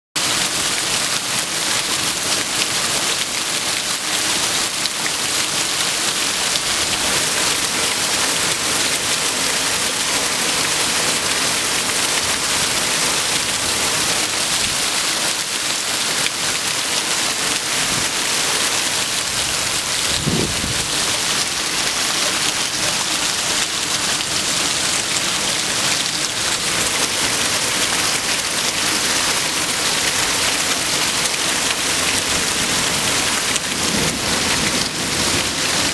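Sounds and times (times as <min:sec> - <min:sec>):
torrential rain pouring: 0:00.2 - 0:35.9.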